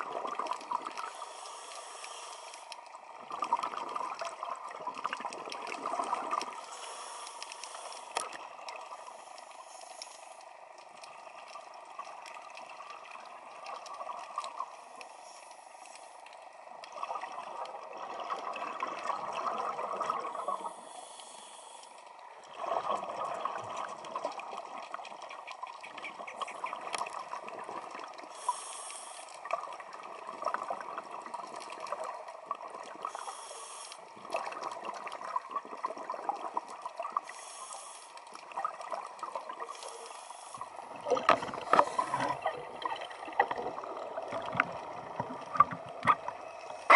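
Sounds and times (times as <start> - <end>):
underwater exhaled air bubbling: 0.0 - 9.8, 16.5 - 46.9
fine crackle: 0.0 - 46.9.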